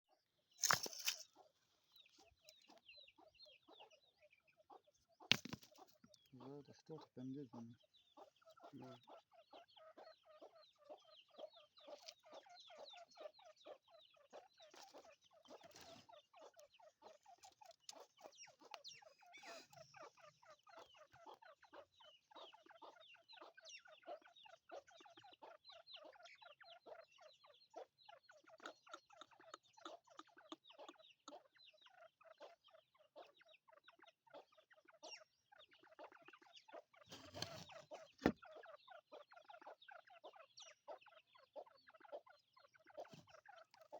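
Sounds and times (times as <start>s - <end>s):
chicks peeping: 0.1s - 43.9s.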